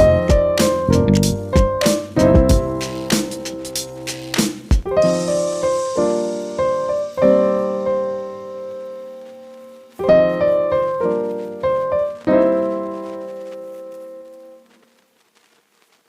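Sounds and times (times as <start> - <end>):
piano notes and chords: 0.0 - 14.7.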